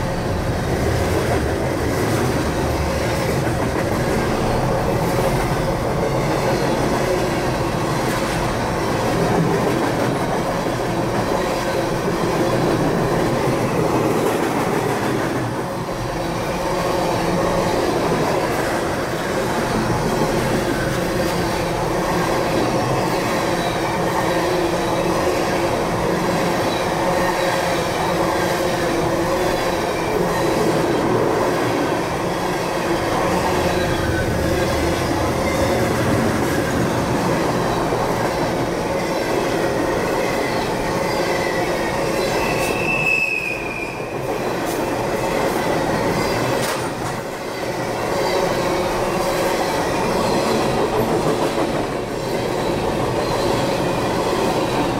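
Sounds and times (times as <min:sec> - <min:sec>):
freight train rolling: 0:00.0 - 0:54.9
steel wheels squealing on rails: 0:00.0 - 0:54.9.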